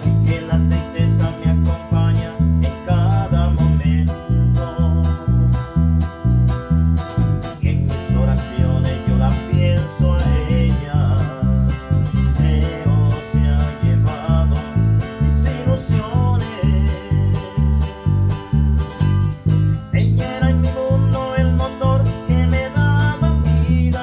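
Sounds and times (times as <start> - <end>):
bass guitar low notes: 0.0 - 24.0
guitar melody: 0.0 - 24.0.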